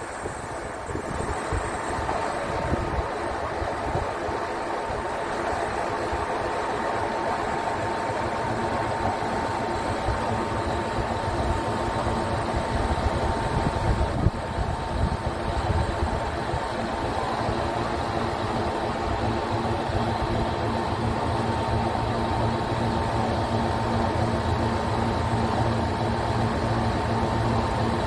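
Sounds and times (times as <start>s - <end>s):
truck engine whine and rumble: 0.0s - 28.0s.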